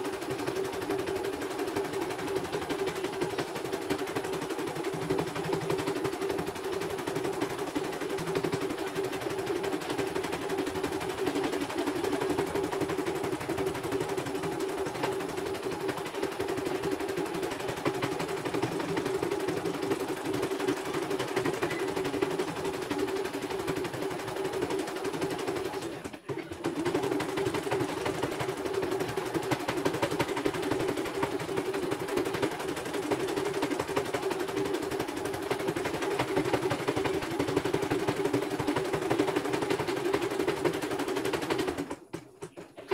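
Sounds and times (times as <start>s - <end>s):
embroidery machine stitching: 0.0s - 42.9s.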